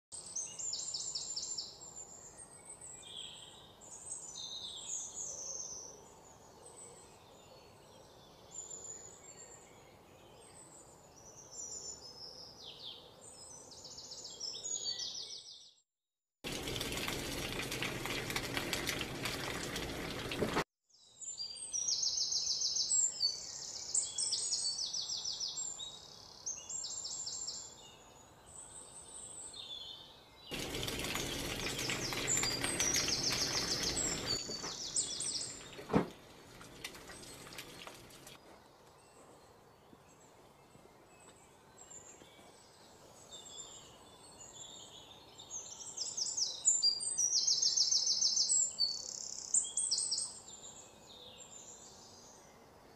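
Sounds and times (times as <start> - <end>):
small birds chirping: 0.2 - 15.8, 17.7 - 52.9.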